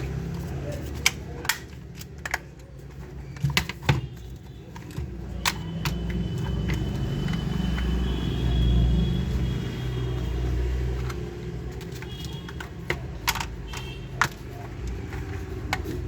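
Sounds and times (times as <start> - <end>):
plastic toy parts clicking: 0.0 - 8.0, 10.9 - 16.0.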